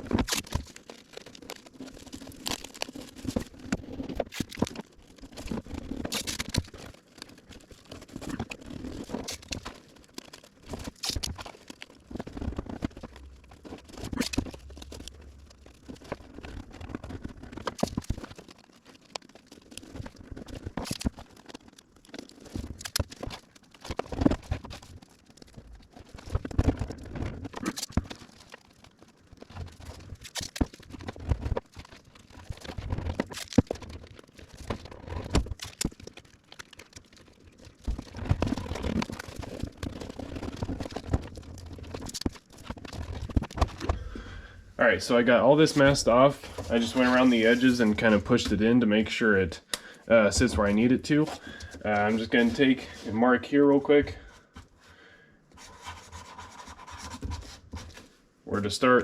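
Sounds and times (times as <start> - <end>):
masking tape tearing and crackling: 0.0 - 54.8.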